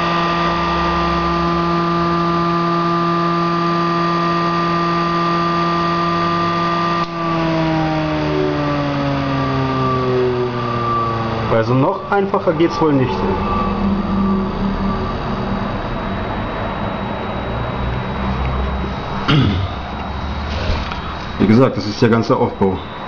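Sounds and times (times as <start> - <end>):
motor high hum: 0.0 - 23.0.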